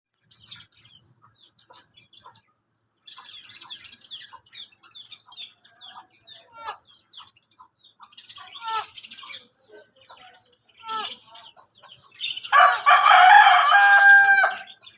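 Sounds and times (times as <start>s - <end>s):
small cage birds chirping: 0.1s - 14.9s.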